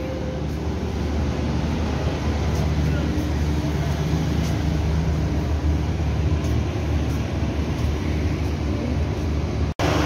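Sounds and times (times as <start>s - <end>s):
generator engine humming: 0.0s - 10.0s.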